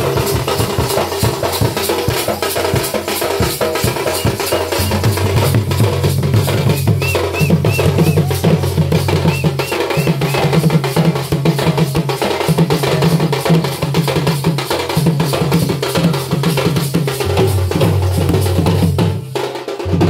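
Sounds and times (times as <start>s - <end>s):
drums beaten in fast rhythm: 0.0s - 20.0s.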